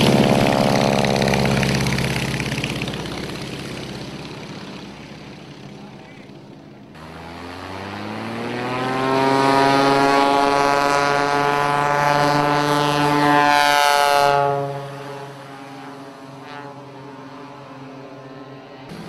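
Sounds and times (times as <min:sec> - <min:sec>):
propeller plane engine at full power: 0:00.0 - 0:19.0.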